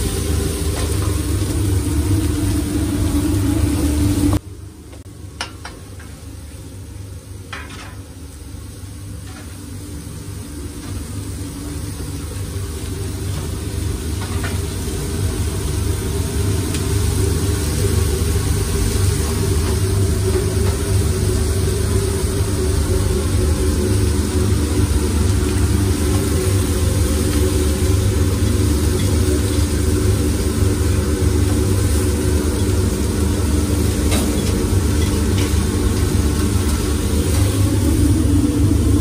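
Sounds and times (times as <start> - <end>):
food sizzling on griddle: 0.0 - 4.4, 7.5 - 39.0
steady low hum: 0.0 - 39.0.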